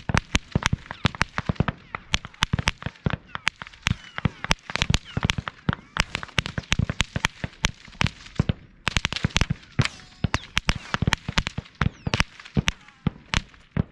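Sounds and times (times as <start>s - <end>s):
bullets whining: 0.0s - 13.9s.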